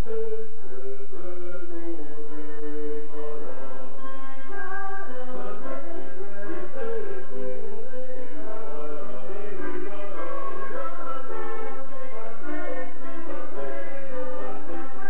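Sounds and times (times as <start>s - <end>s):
choir singing a hymn: 1.2s - 15.0s.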